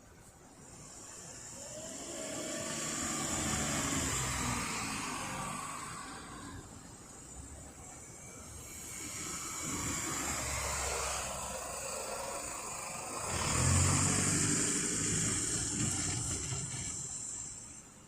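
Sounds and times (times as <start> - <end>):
vehicle passing by: 1.3 - 17.8.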